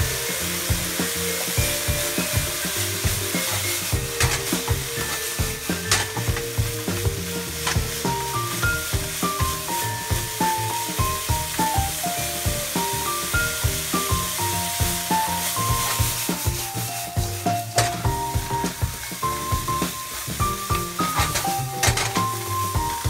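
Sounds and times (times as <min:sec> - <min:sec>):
background music melody: 0:00.0 - 0:23.0
vegetables sizzling in a wok: 0:00.0 - 0:23.0
chopsticks scraping a pan: 0:00.2 - 0:23.0.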